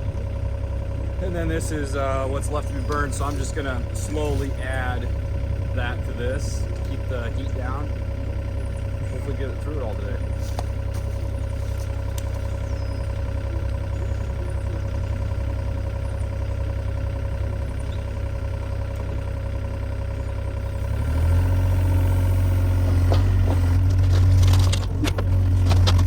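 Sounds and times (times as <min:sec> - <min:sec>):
engine idling and revving: 0:00.0 - 0:26.0.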